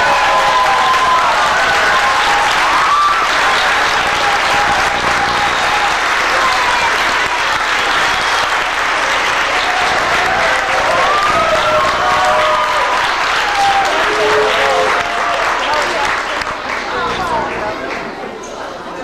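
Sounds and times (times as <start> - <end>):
audience applauding: 0.0 - 18.4.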